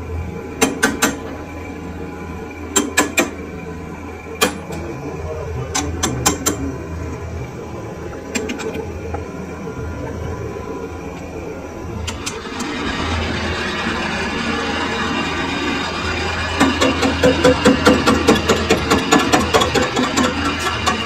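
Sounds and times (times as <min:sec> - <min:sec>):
low workshop hum: 0:00.0 - 0:21.0.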